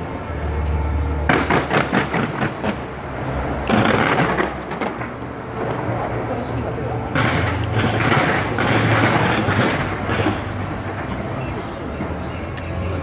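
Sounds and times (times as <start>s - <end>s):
fireworks crackling bangs: 1.2s - 12.9s.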